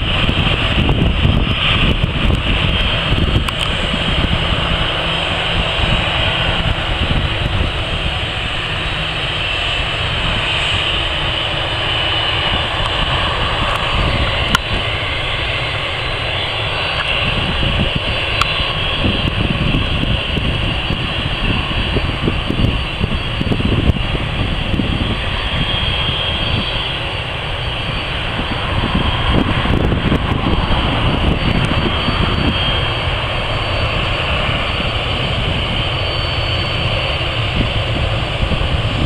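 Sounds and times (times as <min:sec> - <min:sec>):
jet engines rushing: 0:00.0 - 0:39.0
wind buffeting microphone: 0:00.0 - 0:39.0.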